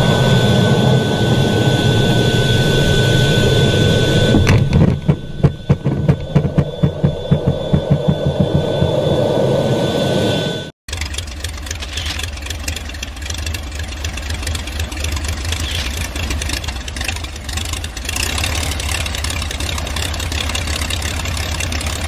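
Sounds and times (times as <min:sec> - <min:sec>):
aircraft engine droning: 0:00.0 - 0:22.0.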